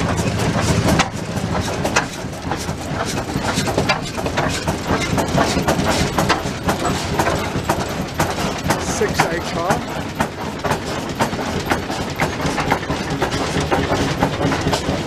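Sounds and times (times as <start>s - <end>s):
low steady engine hum: 0.0s - 15.0s
stationary engines clattering: 0.0s - 15.0s.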